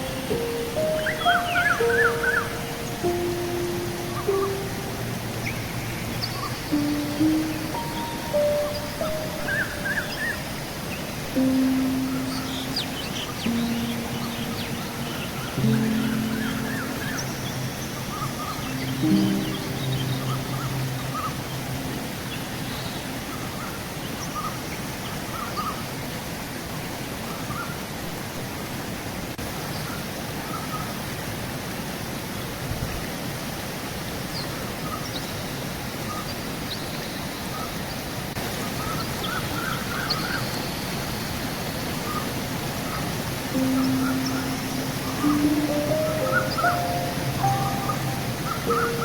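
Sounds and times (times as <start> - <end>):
river rushing: 0.0 - 49.0.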